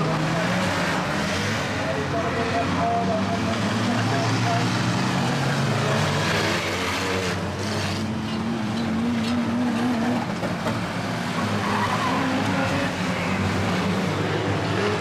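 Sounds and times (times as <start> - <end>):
van engines racing: 0.0 - 15.0.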